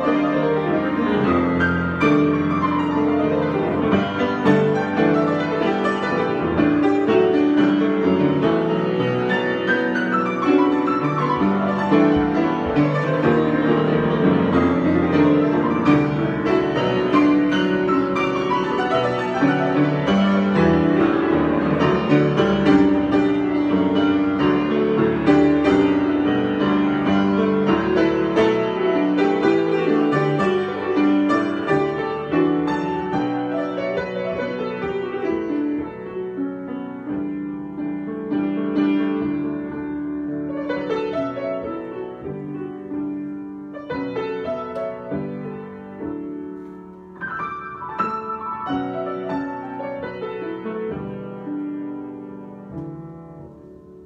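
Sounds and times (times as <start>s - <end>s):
grand piano improvisation: 0.0s - 54.0s.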